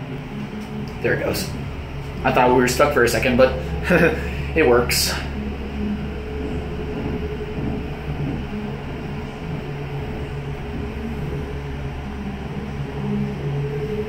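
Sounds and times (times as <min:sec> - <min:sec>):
elevator drive humming: 0:00.0 - 0:14.0
thin steady tone: 0:00.0 - 0:14.0.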